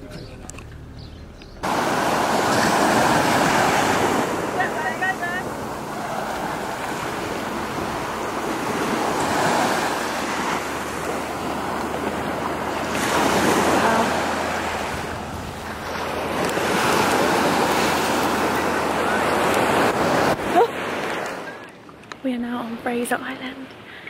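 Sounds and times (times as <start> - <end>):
wind: 0.0 - 24.0
rushing water: 1.6 - 22.1.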